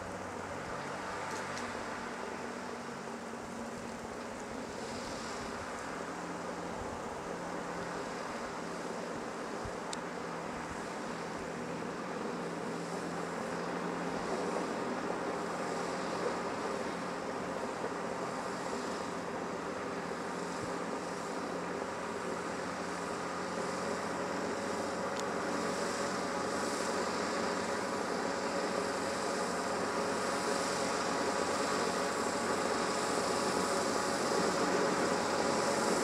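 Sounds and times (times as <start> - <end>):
rail motorcar engine humming: 0.0 - 36.0.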